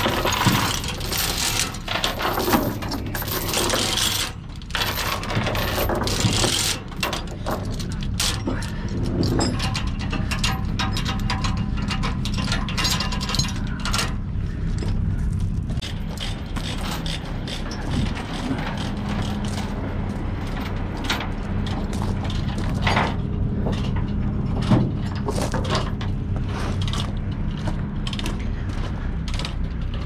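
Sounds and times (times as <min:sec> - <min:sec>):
chain clanking: 0:00.0 - 0:15.0, 0:15.8 - 0:30.0
steady low hum: 0:00.0 - 0:30.0.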